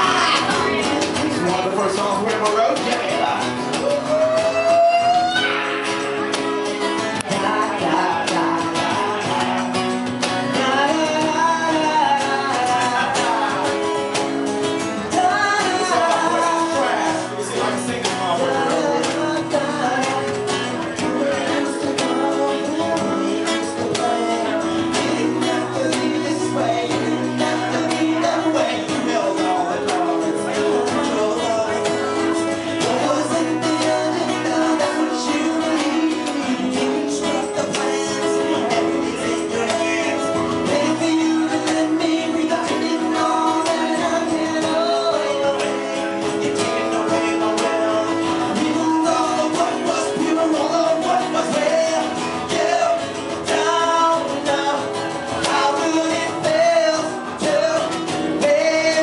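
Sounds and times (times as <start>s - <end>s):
live band playing: 0.0s - 59.0s.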